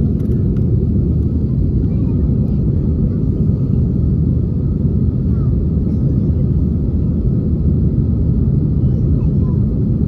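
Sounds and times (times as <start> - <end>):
airliner engine rumble: 0.0 - 10.0.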